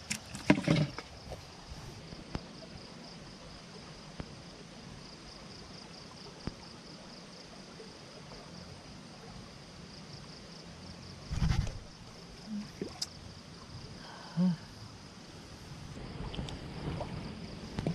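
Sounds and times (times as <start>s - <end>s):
flowing river hiss: 0.0s - 17.9s
insects chirring: 0.0s - 17.9s.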